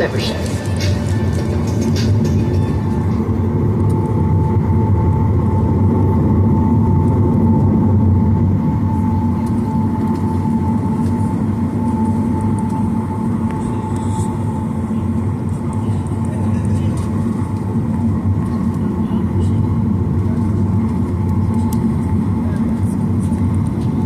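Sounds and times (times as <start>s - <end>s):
jet engine cabin rumble: 0.0s - 24.0s
thin steady whine: 0.0s - 24.0s.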